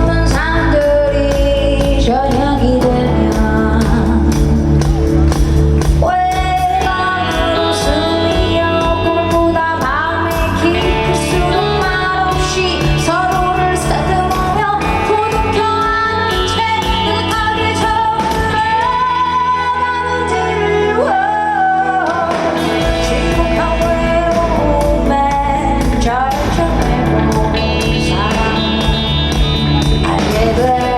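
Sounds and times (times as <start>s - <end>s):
bass: 0.0s - 30.9s
live band playing: 0.0s - 30.9s
woman singing long held notes: 6.0s - 30.9s.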